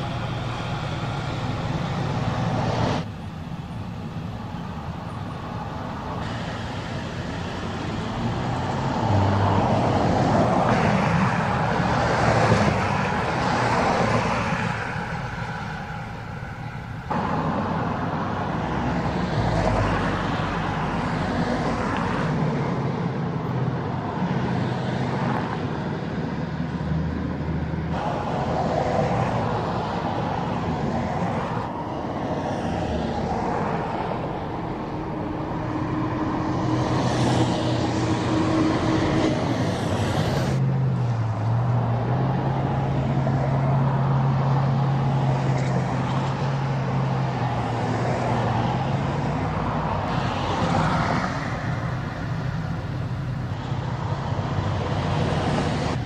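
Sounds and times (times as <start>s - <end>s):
trucks driving past: 0.0s - 56.0s.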